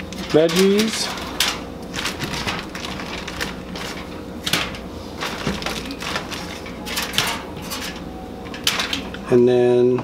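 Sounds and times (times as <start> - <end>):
foil and plastic bag crinkling: 0.0 - 9.1.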